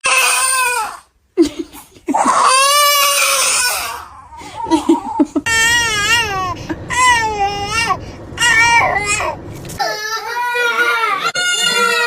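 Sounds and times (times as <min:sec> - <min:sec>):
baby crying: 0:00.0 - 0:01.0, 0:02.1 - 0:12.0.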